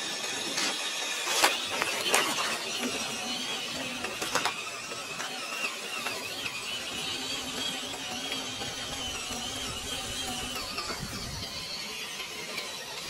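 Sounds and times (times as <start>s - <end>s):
toy car motor whining: 0.0s - 13.0s.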